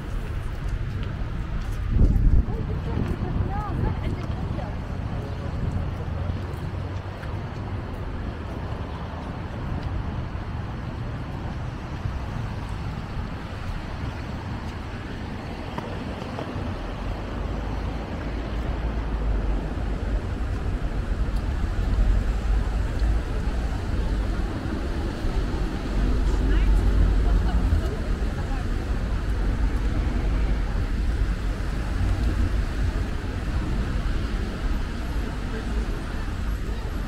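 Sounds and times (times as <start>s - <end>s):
passing cars: 0.0s - 37.0s.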